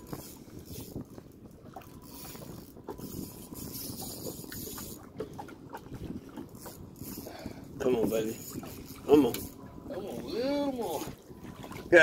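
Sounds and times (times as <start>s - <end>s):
water lapping against hull: 0.0s - 12.0s
wind on microphone: 0.0s - 12.0s.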